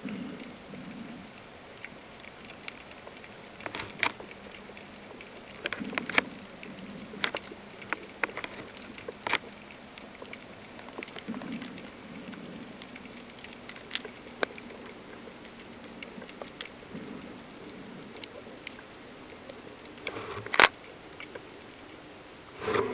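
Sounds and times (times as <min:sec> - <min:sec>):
faint steady hum: 0:00.0 - 0:22.9
underwater clicks and crackles: 0:00.0 - 0:22.9.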